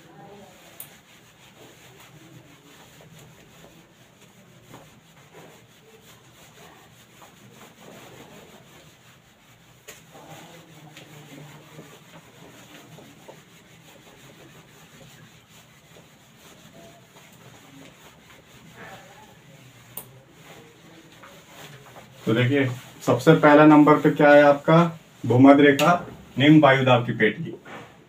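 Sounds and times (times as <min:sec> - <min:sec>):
duster rubbing on whiteboard: 0:00.0 - 0:27.9.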